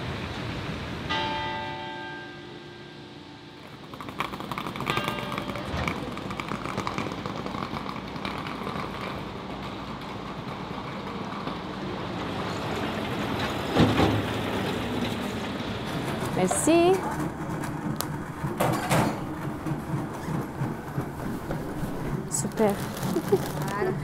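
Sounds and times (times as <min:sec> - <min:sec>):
city street traffic: 0:00.0 - 0:24.0
heavy truck passing: 0:00.0 - 0:24.0.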